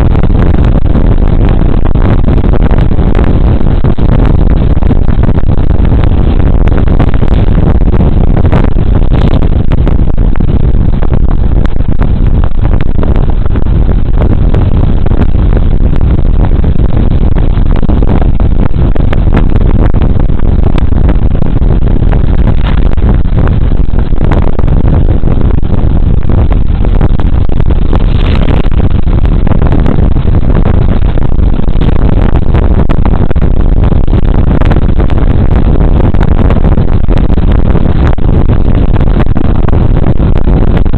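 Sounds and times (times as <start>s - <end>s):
wind rumbling over microphone: 0.0s - 40.9s.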